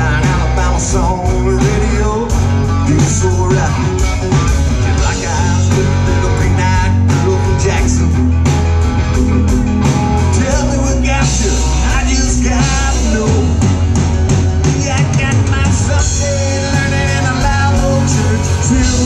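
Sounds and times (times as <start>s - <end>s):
live country-rock band: 0.0s - 19.0s.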